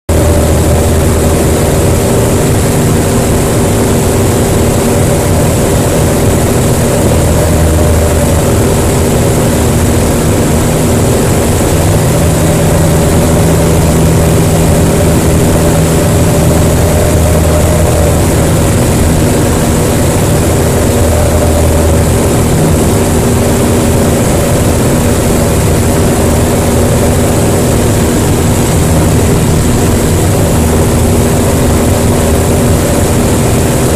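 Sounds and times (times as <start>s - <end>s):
light aircraft engine droning: 0.1s - 33.9s.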